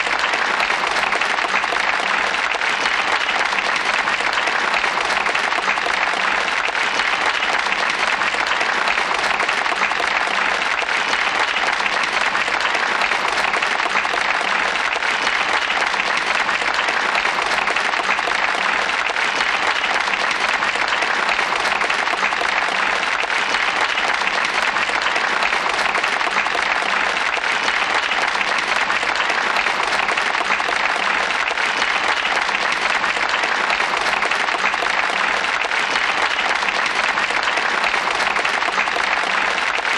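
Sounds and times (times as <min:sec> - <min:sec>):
crowd applauding: 0:00.0 - 0:39.9.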